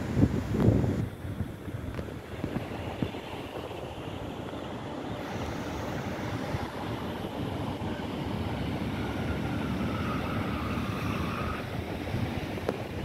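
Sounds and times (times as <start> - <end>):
road traffic noise: 0.0 - 13.0
wind buffeting the microphone: 0.0 - 13.0.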